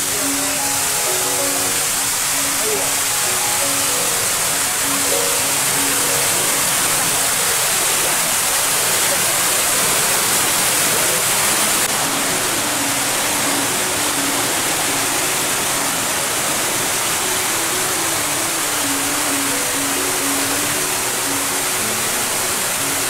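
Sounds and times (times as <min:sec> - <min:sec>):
faint music melody: 0:00.0 - 0:23.0
waterfall roaring: 0:00.0 - 0:23.0.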